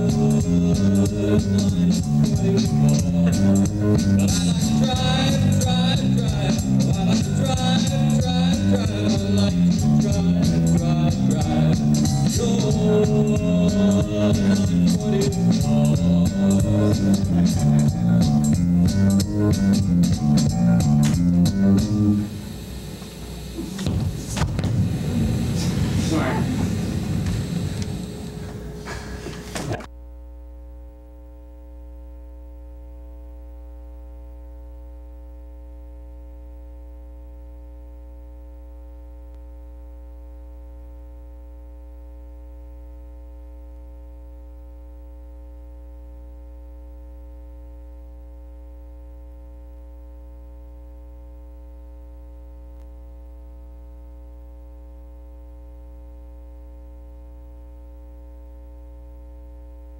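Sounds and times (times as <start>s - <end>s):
low electrical mains hum: 0.0s - 59.9s.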